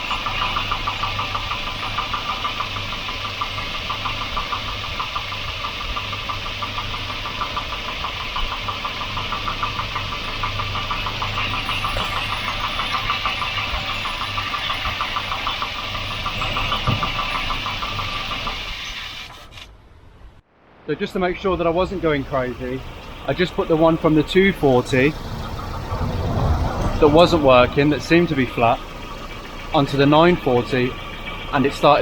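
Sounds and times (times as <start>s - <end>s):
fast even ticking: 0.0s - 18.7s, 21.6s - 32.0s
car engine idling: 0.0s - 19.3s, 21.2s - 32.0s.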